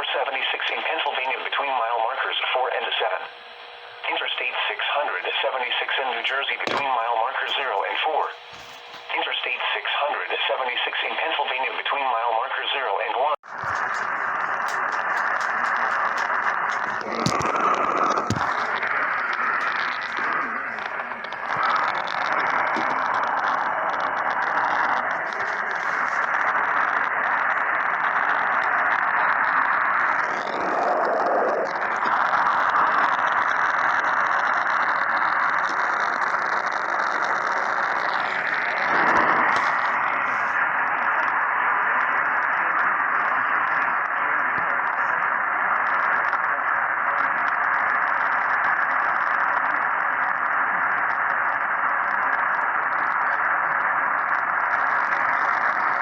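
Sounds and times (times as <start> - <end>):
radio static hiss: 0.0 - 56.0.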